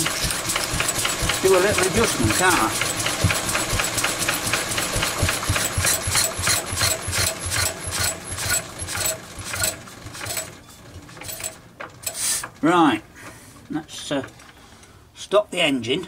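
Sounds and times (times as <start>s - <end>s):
small petrol engine running: 0.0s - 12.9s.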